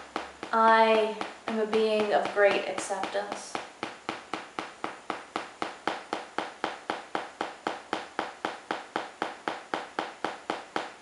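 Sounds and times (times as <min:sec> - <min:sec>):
small hammer tapping: 0:00.0 - 0:11.0.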